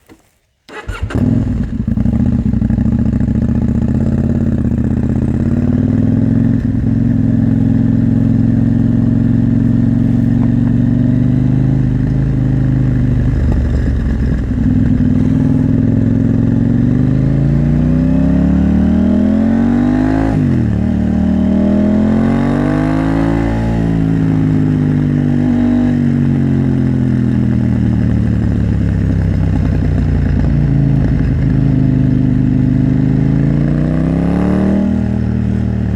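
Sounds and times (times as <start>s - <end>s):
motorcycle engine running: 0.8s - 35.9s.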